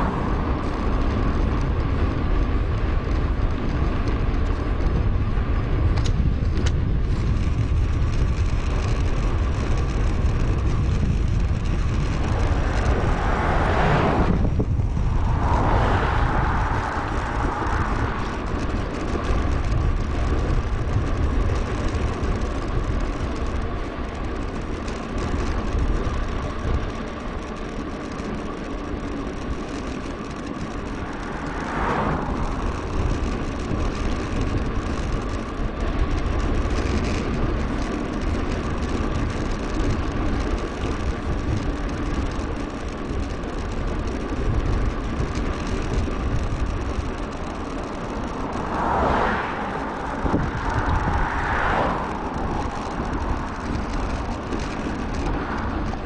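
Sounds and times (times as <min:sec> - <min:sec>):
bicycle tyre and drivetrain noise: 0:00.0 - 0:56.0
wind rumbling on microphone: 0:00.0 - 0:56.0.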